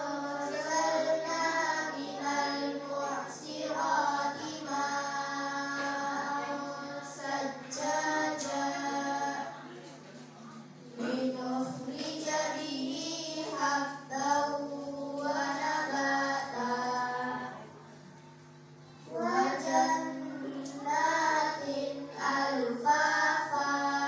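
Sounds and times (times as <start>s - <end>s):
children chanting in unison: 0.0s - 9.6s, 11.0s - 17.6s, 19.1s - 24.0s.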